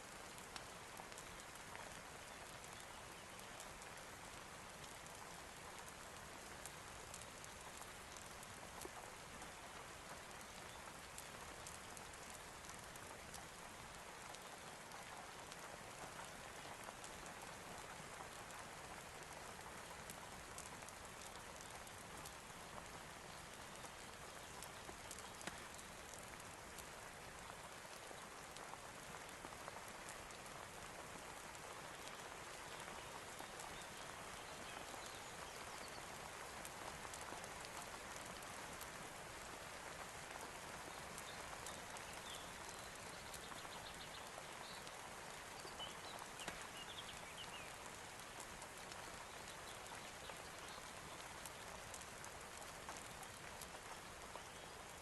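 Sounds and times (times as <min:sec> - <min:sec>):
light ticks of raindrops: 0:00.0 - 0:55.0
steady rain hiss: 0:00.0 - 0:55.0.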